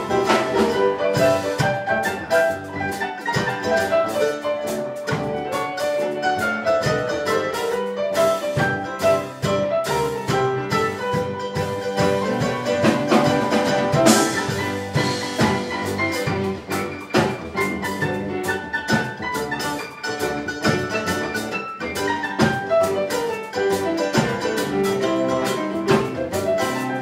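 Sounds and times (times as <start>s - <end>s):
drum kit beat: 0.0s - 27.0s
guitar: 0.0s - 27.0s
mandolin melody: 0.0s - 27.0s.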